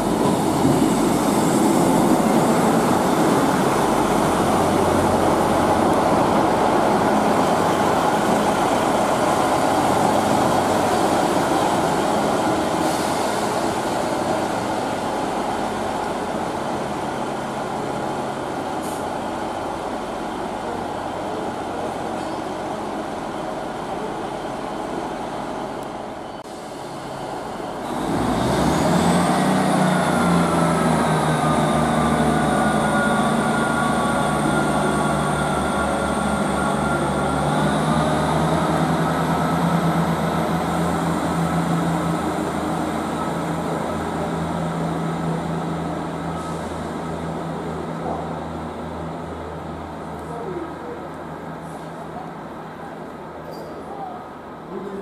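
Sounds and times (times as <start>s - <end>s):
train diesel engines: 0.0s - 55.0s.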